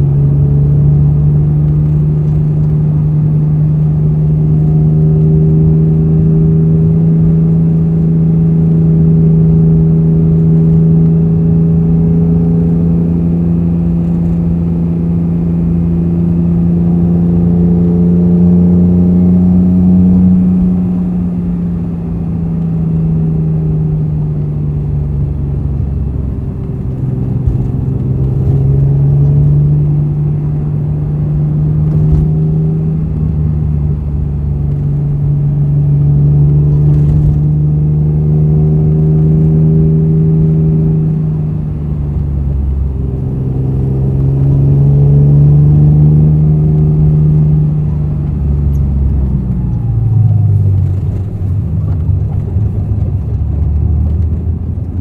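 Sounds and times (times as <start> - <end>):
car engine and exhaust droning: 0.0 - 55.0.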